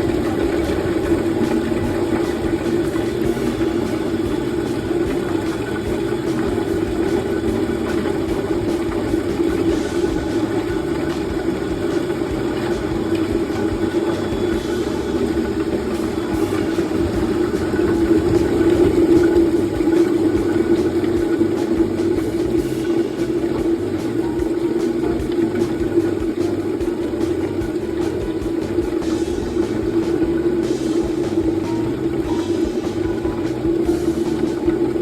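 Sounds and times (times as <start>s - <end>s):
peeling machine humming: 0.0s - 35.0s.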